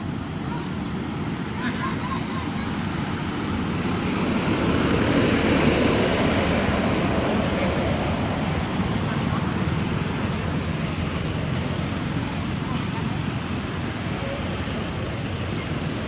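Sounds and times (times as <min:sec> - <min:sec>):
constant high hiss: 0:00.0 - 0:16.0.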